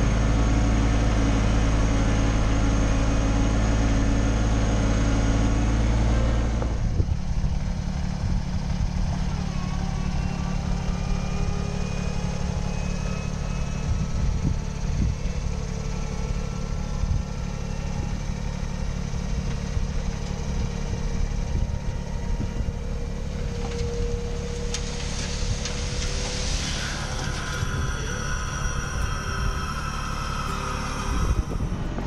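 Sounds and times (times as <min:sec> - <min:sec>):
hydraulic pump humming: 0:06.0 - 0:32.0.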